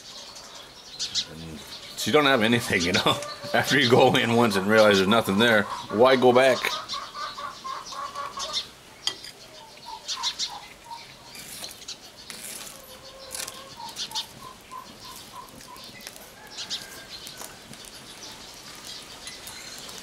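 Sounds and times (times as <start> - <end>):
high bird chirps: 0.0 - 20.0.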